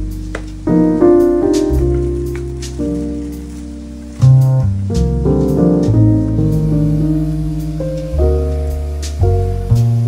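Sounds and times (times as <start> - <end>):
keyboard chords over bass line: 0.0 - 10.0.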